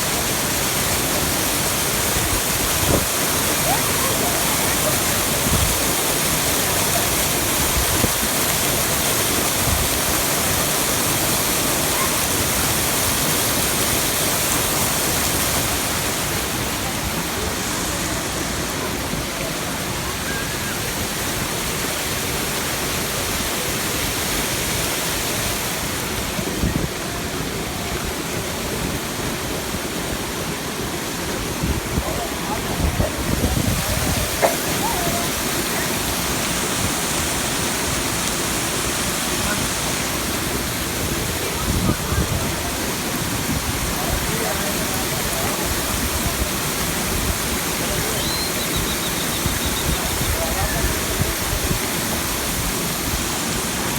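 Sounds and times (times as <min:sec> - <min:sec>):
waterfall roaring: 0:00.0 - 0:53.9.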